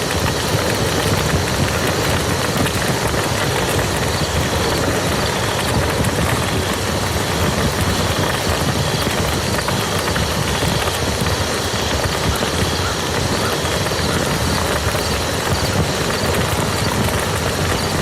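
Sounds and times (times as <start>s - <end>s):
rain falling on muddy ground: 0.0s - 18.0s.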